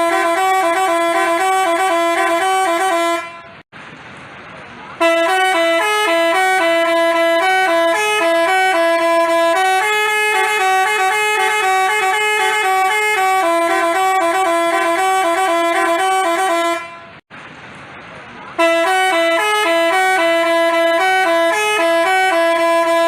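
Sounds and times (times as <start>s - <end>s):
musical bus horn playing a tune: 0.0s - 3.6s, 5.0s - 17.2s, 18.6s - 23.0s.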